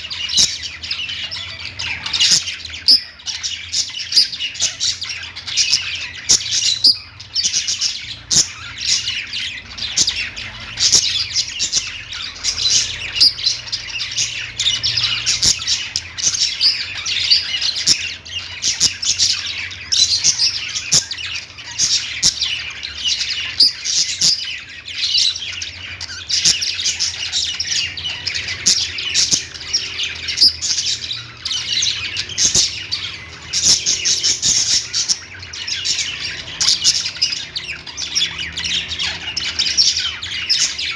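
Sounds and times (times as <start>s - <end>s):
parrots chirping and squawking: 0.0s - 40.9s.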